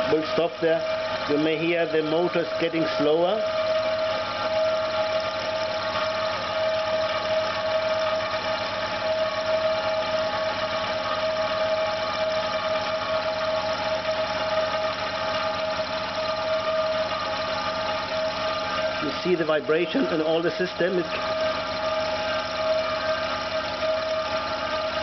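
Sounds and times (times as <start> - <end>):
air compressor whining and humming: 0.0 - 25.0.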